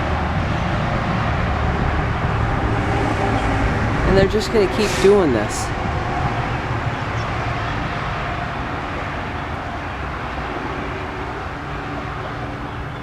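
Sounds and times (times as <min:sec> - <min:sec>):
distant engine rumble and hiss: 0:00.0 - 0:13.0.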